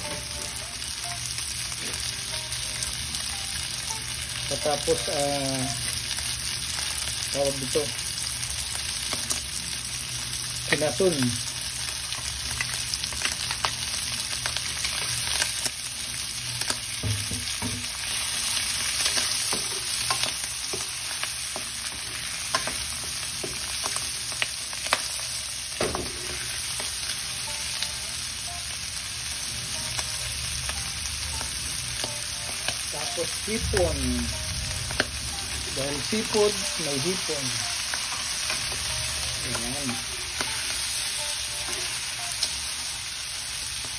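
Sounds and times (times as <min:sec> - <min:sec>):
food sizzling in a hot pan: 0:00.0 - 0:43.9.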